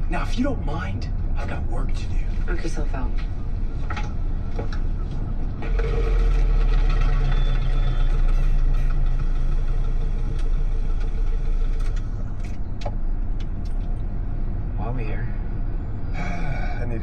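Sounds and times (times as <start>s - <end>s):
car driving with road noise: 0.0s - 17.0s.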